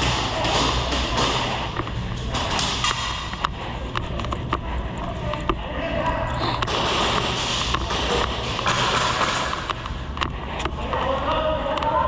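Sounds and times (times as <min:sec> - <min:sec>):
faint voices: 0:00.0 - 0:12.0
steady low rumble: 0:00.0 - 0:12.0.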